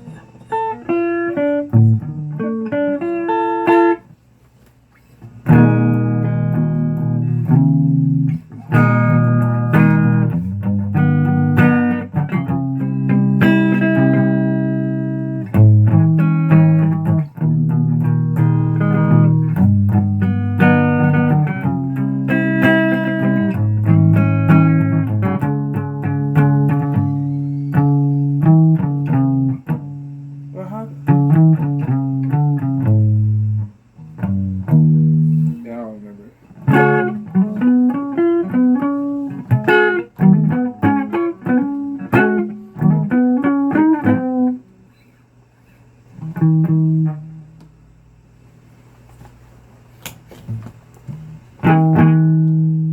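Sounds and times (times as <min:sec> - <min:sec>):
plucked guitar music: 0:00.0 - 0:04.1, 0:05.2 - 0:44.8, 0:46.1 - 0:47.8, 0:50.5 - 0:52.9.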